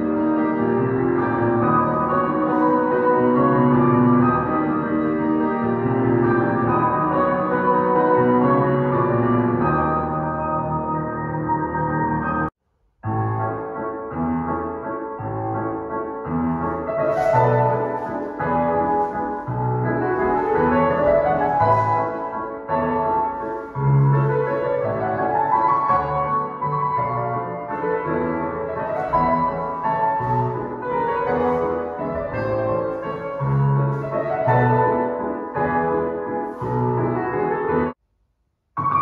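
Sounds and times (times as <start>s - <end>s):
classical piano music: 0.0s - 38.0s, 38.8s - 39.0s.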